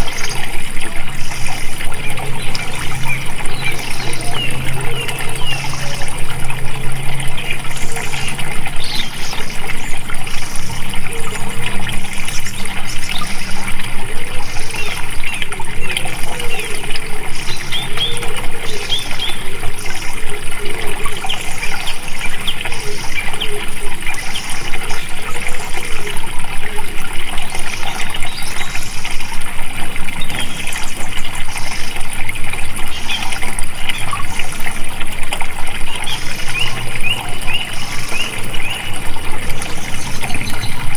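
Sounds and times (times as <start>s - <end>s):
birds chirping: 0.0s - 40.9s
water gushing and trickling: 0.0s - 40.9s.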